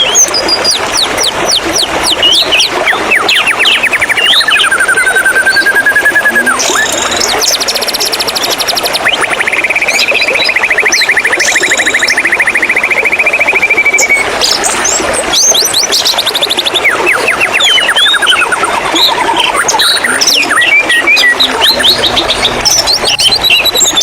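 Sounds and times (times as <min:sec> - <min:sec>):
bird singing trills and whistles: 0:00.0 - 0:24.0
flowing water: 0:00.0 - 0:24.0.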